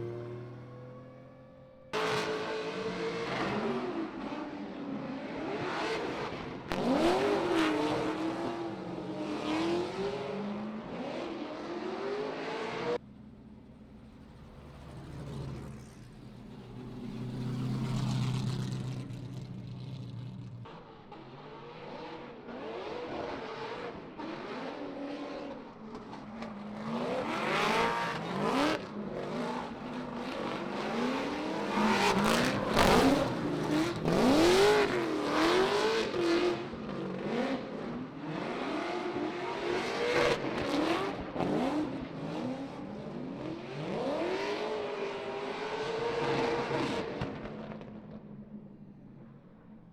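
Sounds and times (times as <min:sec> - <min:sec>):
car engines revving: 0:00.0 - 0:48.7.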